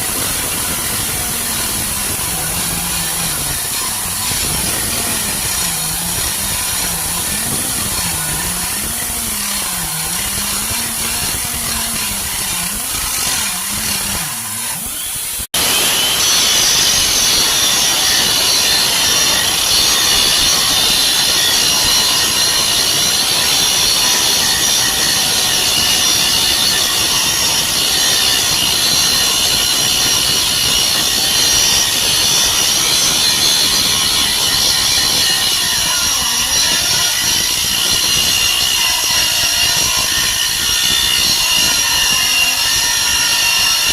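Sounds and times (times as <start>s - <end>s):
air grinder whining: 0.0s - 43.9s.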